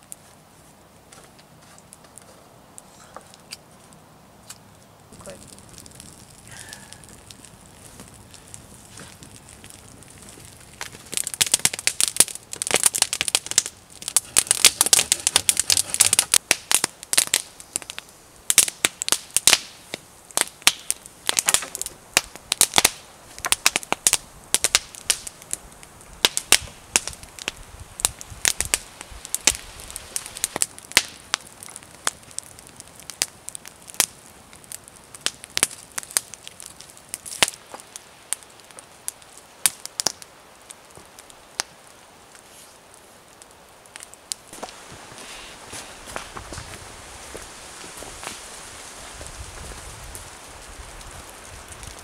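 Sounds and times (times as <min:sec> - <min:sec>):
sharp crackling and popping: 0:00.0 - 0:52.0.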